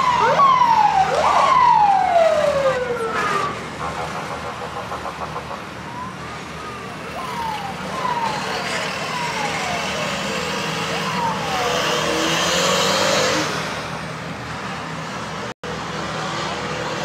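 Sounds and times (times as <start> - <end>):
vehicle siren sweeping: 0.0 - 13.9.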